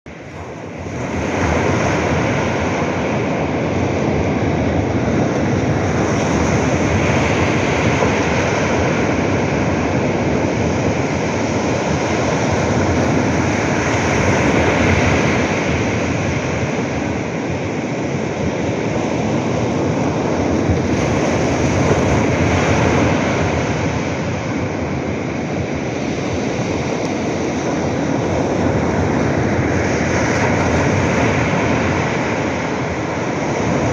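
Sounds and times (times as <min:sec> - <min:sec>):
waves breaking on beach: 0:00.1 - 0:33.9.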